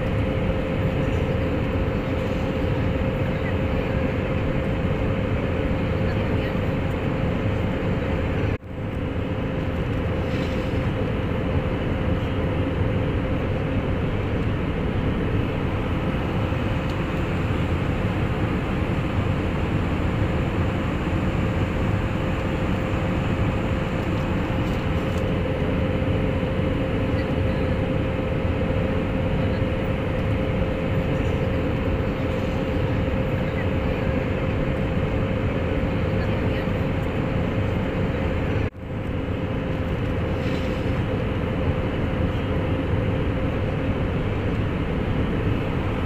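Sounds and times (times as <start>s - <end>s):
jet engine droning in cabin: 0.0s - 46.0s.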